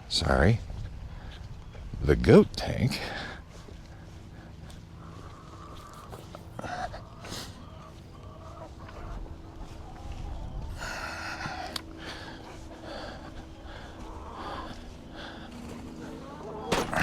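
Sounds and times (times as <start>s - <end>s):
faint steady hum: 0.0s - 17.0s
chickens clucking: 3.0s - 17.0s.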